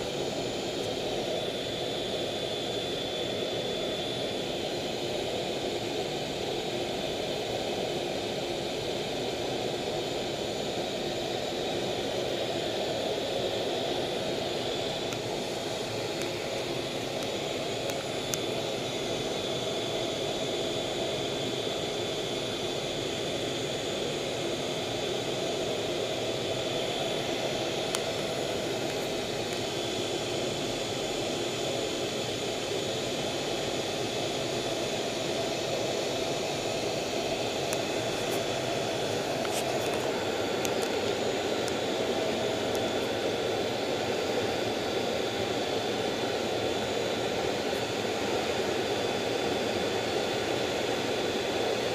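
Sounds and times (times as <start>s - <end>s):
jet engine in cockpit: 0.0s - 51.9s.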